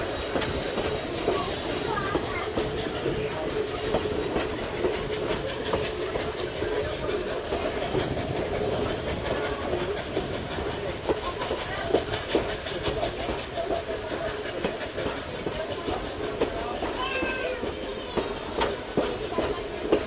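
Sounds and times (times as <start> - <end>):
train rolling rumble: 0.0 - 20.0
wheels clacking over rail joints: 0.0 - 20.0.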